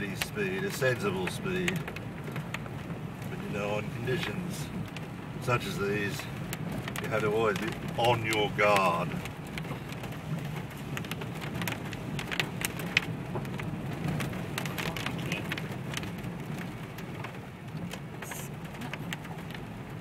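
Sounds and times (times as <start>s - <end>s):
car engine and tyres droning: 0.0s - 20.0s.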